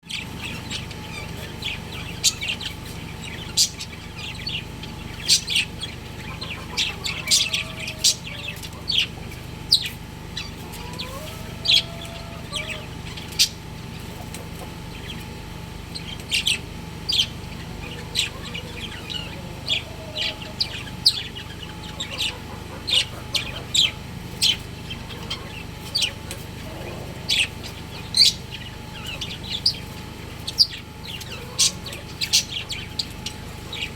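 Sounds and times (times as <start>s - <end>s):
budgerigars chirping: 0.0s - 33.9s
steady low hum: 0.0s - 33.9s.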